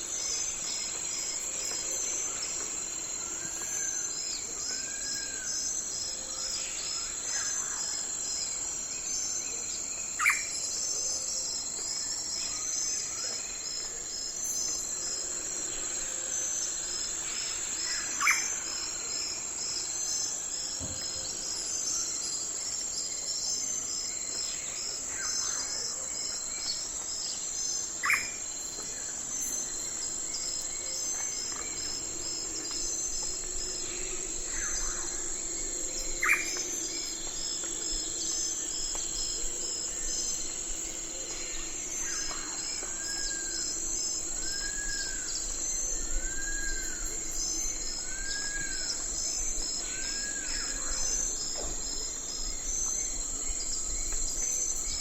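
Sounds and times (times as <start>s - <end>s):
insect chorus chirping: 0.0s - 55.0s.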